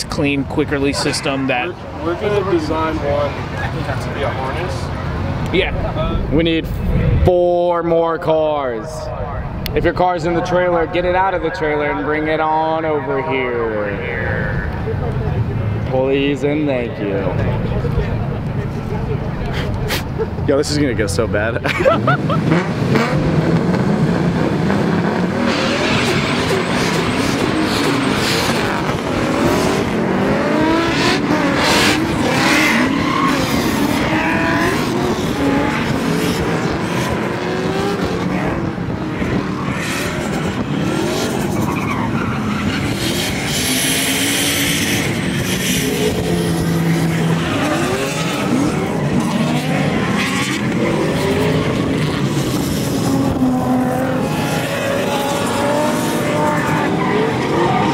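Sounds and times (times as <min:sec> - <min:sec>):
car engines revving hard: 0:00.0 - 0:07.2, 0:07.8 - 0:57.9.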